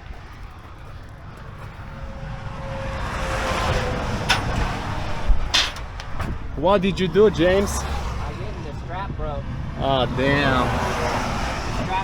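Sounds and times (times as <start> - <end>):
vehicle passing by: 0.2 - 12.0.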